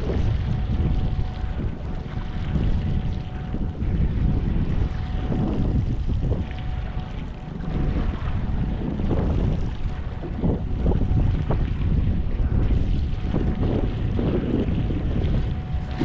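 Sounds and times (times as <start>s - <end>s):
faint steady thin tone: 0.0s - 16.0s
wind buffeting microphone: 0.0s - 16.0s.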